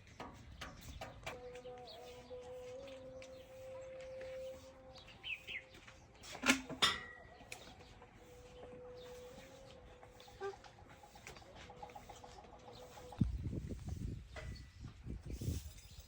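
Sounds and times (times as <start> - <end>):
farmyard birds chirping: 0.0 - 16.0.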